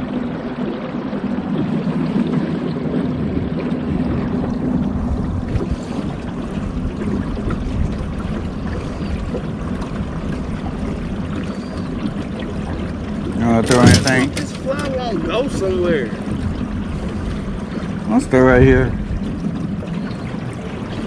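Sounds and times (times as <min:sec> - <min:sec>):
boat motor running: 0:00.0 - 0:21.0
water rushing along hull: 0:00.0 - 0:21.0.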